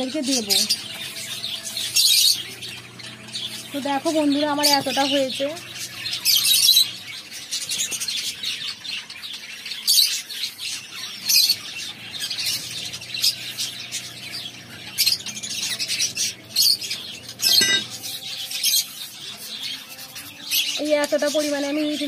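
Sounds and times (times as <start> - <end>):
pet birds chirping and squawking: 0.0 - 22.0.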